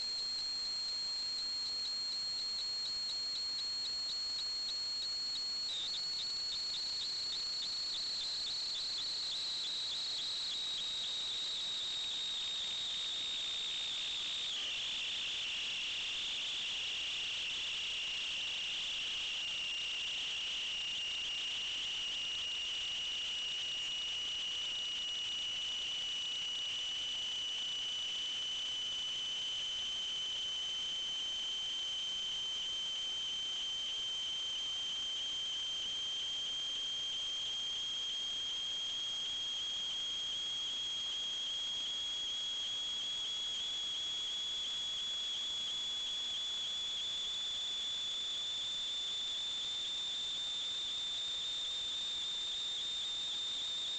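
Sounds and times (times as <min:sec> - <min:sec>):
high-pitched whine: 0:00.0 - 0:53.9.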